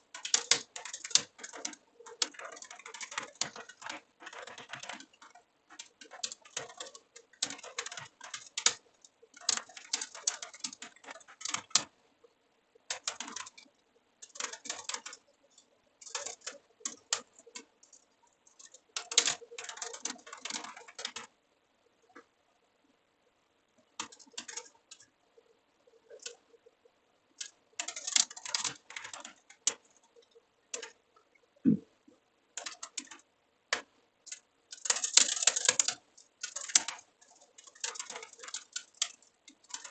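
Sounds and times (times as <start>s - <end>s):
typing on computer keyboard: 0.0s - 12.0s, 12.8s - 21.3s, 23.8s - 25.1s, 25.8s - 26.6s, 27.3s - 31.8s, 32.6s - 39.9s.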